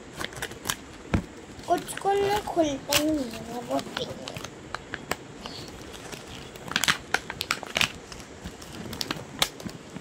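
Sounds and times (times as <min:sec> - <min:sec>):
packaging crinkling: 0:00.1 - 0:10.0.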